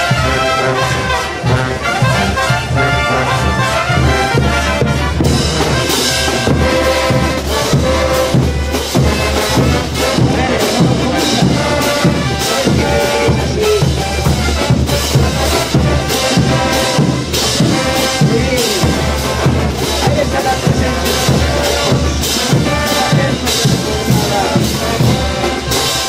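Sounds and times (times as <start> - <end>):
bass drum and cymbals: 0.0 - 26.0
brass melody: 0.0 - 26.0.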